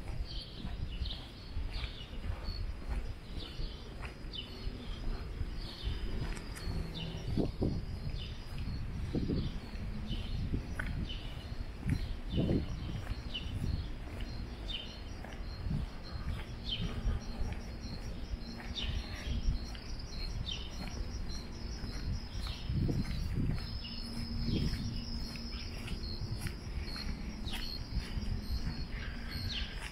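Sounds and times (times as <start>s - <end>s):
low outdoor rumble: 0.0s - 29.9s
small birds chirping: 0.0s - 29.9s
soft low thumps: 0.0s - 29.9s
insect trill: 4.6s - 29.9s.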